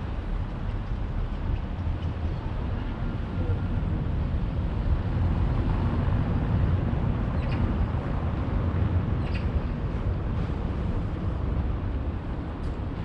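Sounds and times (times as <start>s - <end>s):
city background rumble: 0.0s - 13.0s.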